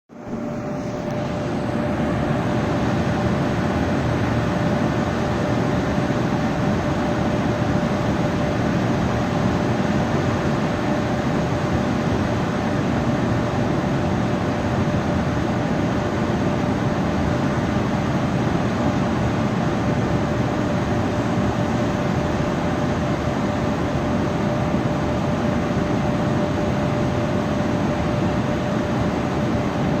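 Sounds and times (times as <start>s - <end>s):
steady droning noise: 0.1s - 30.0s.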